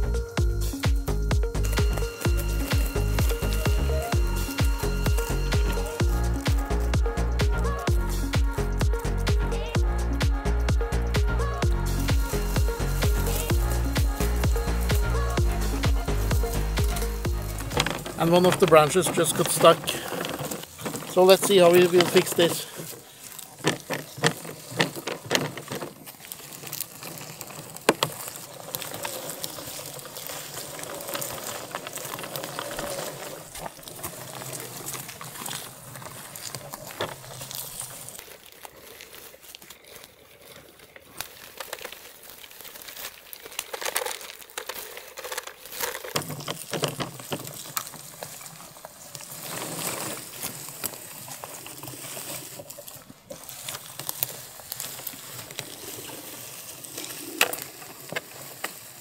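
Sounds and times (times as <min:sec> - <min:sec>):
twigs and leaves crackling: 0:00.0 - 0:59.0.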